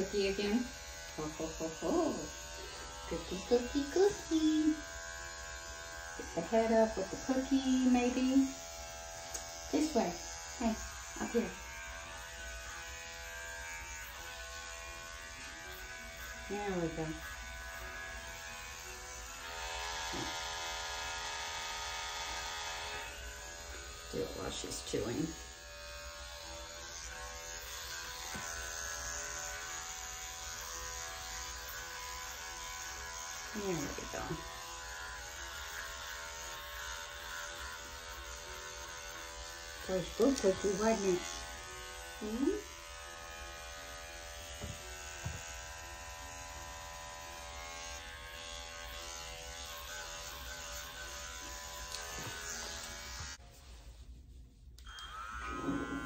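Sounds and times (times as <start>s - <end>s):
electric clippers buzzing: 0.0s - 53.5s, 54.8s - 56.0s.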